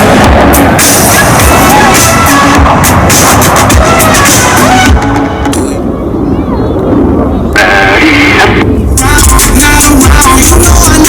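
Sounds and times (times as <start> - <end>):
loud music with pulsing bass: 0.0 - 5.9, 7.0 - 11.0.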